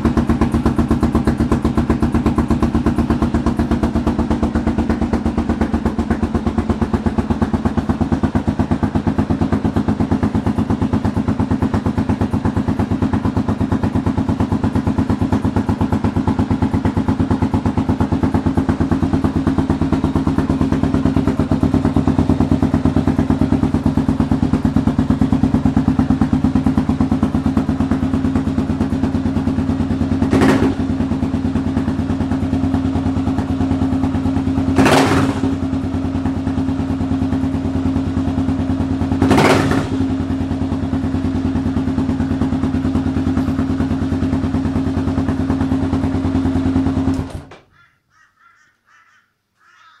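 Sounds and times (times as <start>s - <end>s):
motorcycle engine running: 0.0s - 47.6s.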